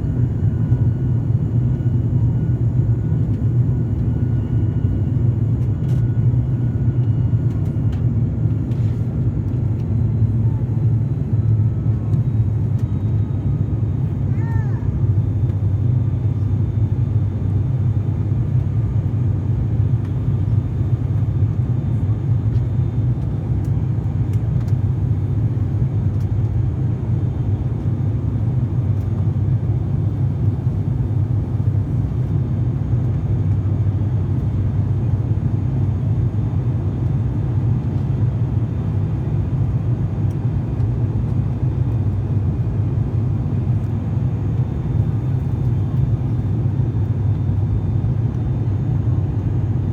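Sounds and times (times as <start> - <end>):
airliner engine drone in cabin: 0.0 - 49.9.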